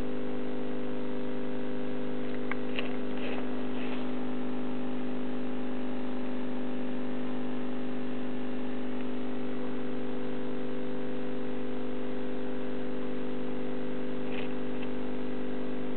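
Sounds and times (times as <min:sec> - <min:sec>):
aquarium equipment hum: 0:00.0 - 0:15.9.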